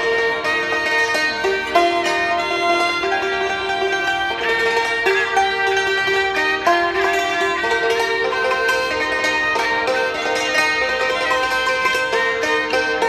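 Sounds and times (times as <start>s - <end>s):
bowed fiddle melody: 0.0s - 13.0s
hammered dulcimer notes: 0.0s - 13.0s.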